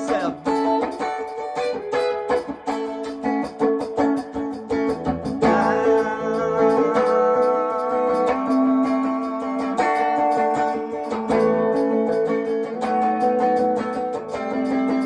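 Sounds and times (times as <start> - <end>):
electric guitar strumming chords: 0.0 - 15.0.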